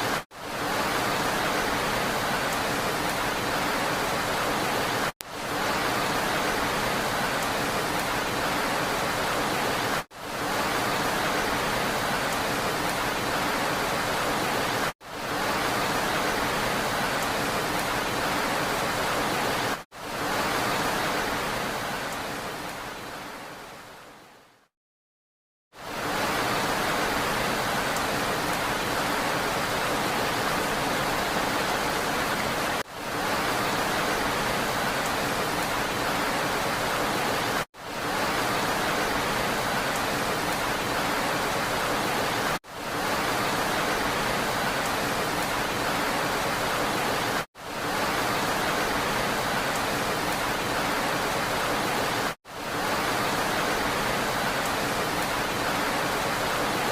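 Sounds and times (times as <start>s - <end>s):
rain hiss: 0.0s - 24.6s, 25.8s - 56.9s.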